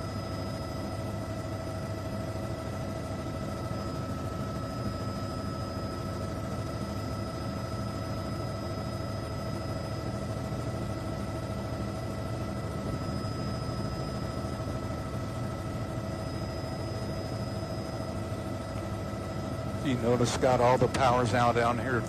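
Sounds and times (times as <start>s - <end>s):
mechanical drone with whining: 0.0s - 22.0s.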